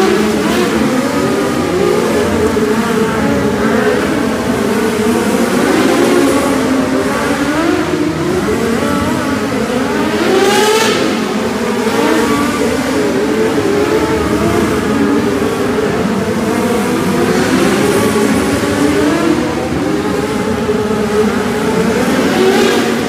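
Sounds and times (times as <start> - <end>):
small race car engines revving: 0.0 - 23.0.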